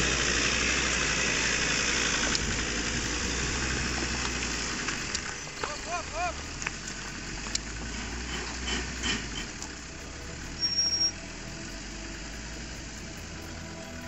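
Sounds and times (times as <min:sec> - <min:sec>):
car engine running under load: 0:00.0 - 0:14.0.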